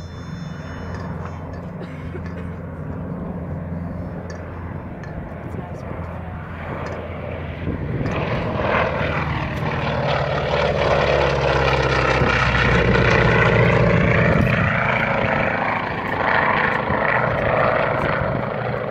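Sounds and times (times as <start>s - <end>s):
propeller plane flying past: 0.0s - 18.9s.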